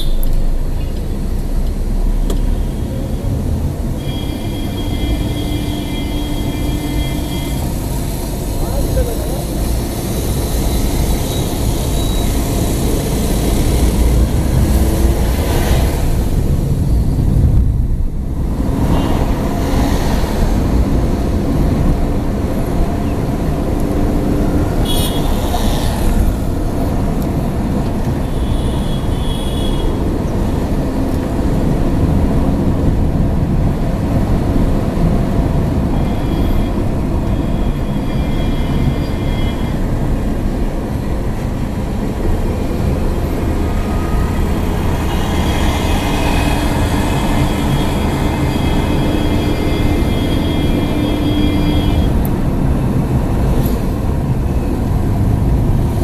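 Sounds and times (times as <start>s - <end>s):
car road and engine rumble: 0.0s - 56.0s
tyre and traffic noise: 0.0s - 56.0s.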